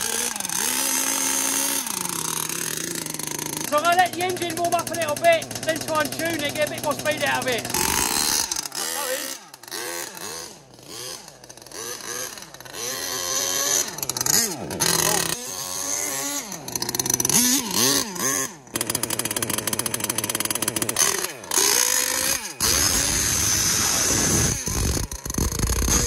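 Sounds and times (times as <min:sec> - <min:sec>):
small two-stroke engine revving: 0:00.0 - 0:26.0.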